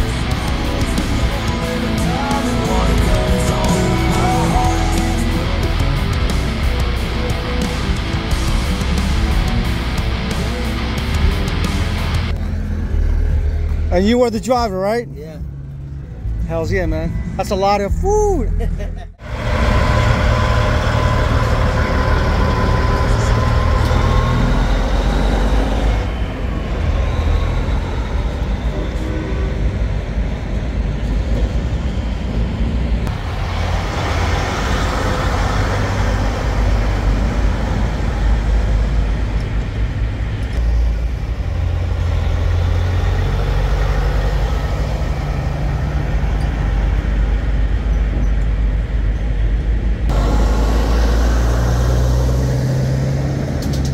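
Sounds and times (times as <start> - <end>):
diesel truck engine rumbling: 0.0 - 53.9.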